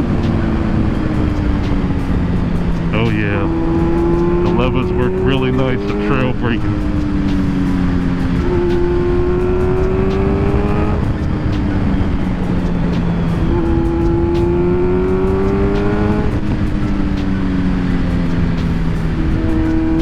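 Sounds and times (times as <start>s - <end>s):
motorcycle engine revving: 0.0s - 20.0s
wind and road noise: 0.0s - 20.0s.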